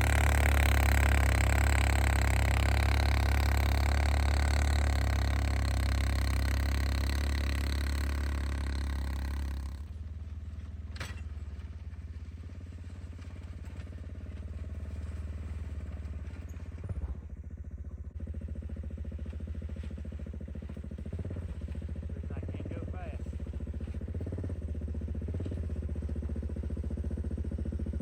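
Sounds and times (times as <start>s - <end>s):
engine running under throttle: 0.0s - 28.0s.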